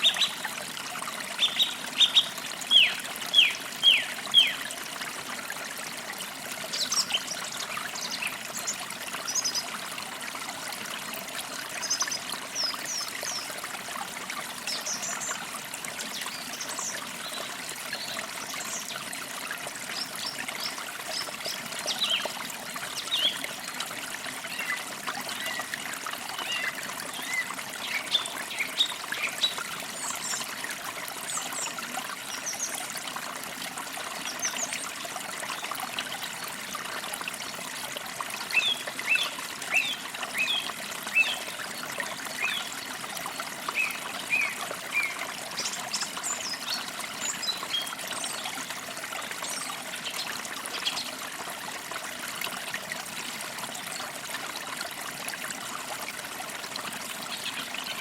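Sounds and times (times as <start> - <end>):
creek trickling: 0.0 - 58.0.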